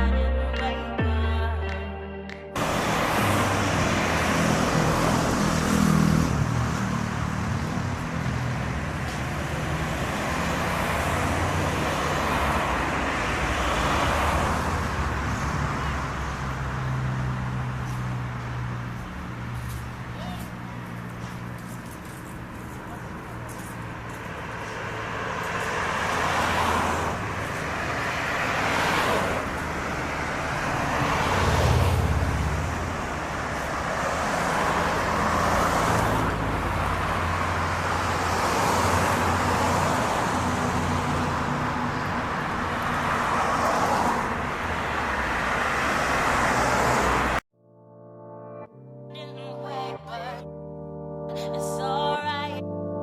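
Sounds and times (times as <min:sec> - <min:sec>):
cars passing: 0:00.0 - 0:47.5.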